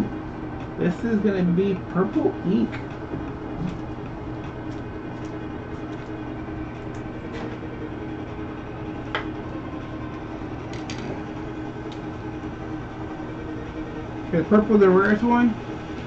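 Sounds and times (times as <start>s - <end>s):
steady room hum: 0.0s - 16.0s.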